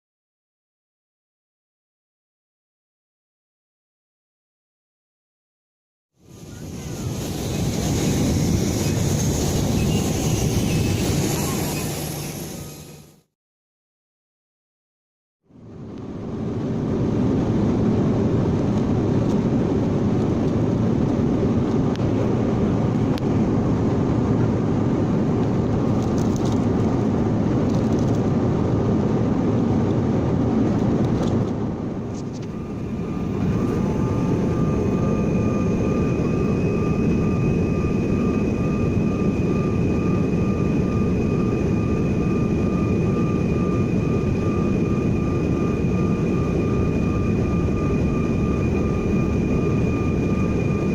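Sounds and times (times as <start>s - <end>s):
high engine whine: 6.2s - 13.3s, 15.5s - 50.9s
jet engines and airflow: 6.2s - 13.3s, 15.4s - 50.9s.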